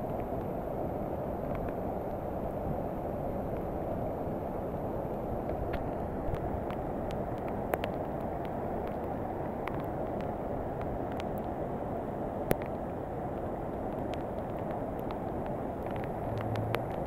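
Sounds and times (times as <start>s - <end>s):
water rushing down a wall: 0.0s - 17.0s.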